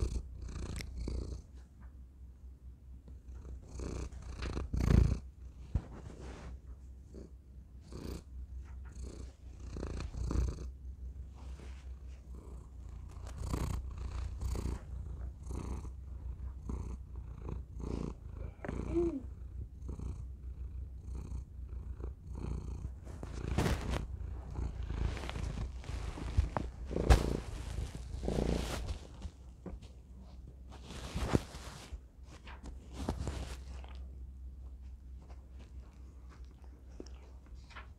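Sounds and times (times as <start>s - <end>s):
cat purring: 0.0s - 1.9s, 3.0s - 37.9s.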